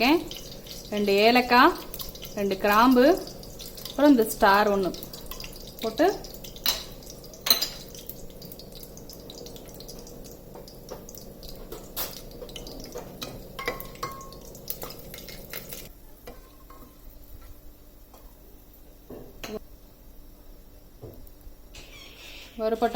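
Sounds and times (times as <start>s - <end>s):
spices crackling in hot oil: 0.0s - 20.2s.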